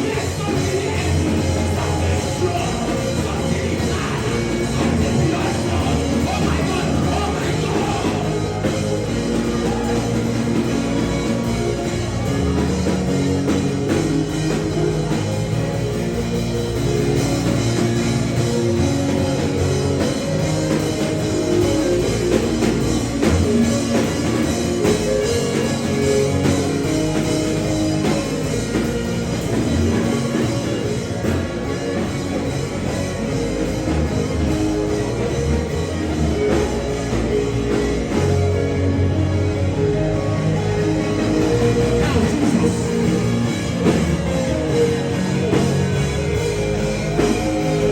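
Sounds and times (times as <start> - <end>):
instrumental band music: 0.0 - 47.9.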